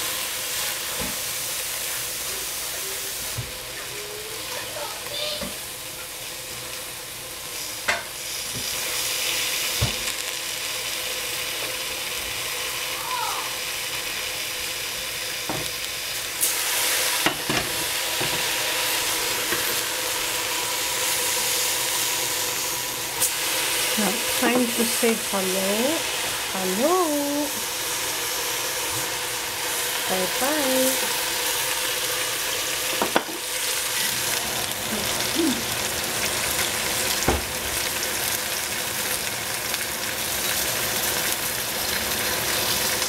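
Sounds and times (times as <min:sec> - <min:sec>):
vegetables sizzling in a pot: 0:00.0 - 0:43.0.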